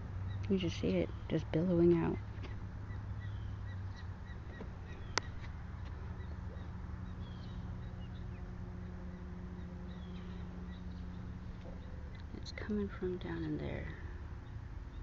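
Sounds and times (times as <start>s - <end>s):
steady low hum: 0.0s - 15.0s
small birds chirping: 0.2s - 15.0s.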